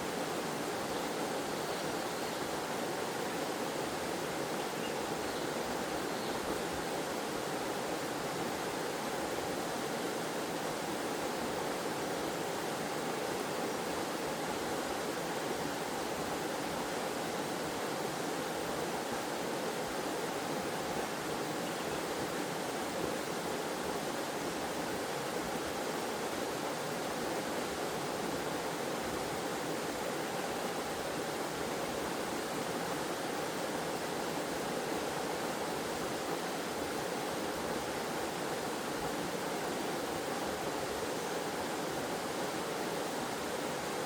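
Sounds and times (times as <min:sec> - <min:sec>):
waterfall and stream flowing: 0:00.0 - 0:44.0.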